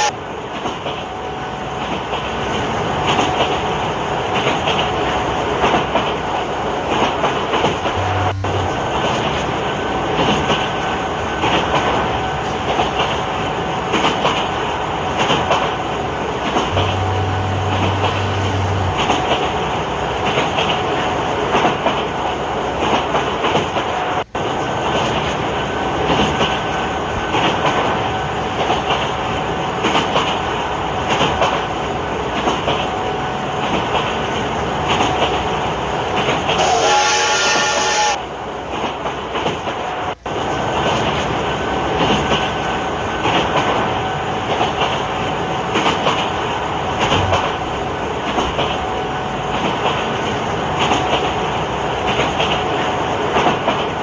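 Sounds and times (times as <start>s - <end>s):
train rumble and wheel clatter: 0.0s - 54.0s.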